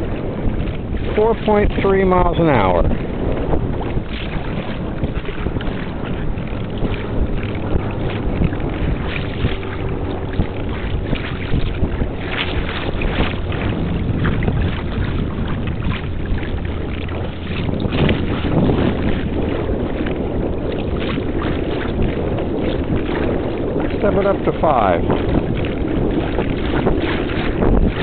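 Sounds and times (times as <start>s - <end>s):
short splashes: 0.0s - 28.0s
water rushing along kayak hull: 0.0s - 28.0s
wind rumble on microphone: 0.0s - 28.0s.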